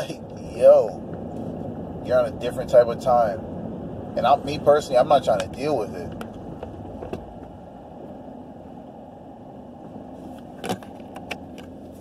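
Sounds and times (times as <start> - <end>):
low rumble of car cabin: 0.0 - 12.0.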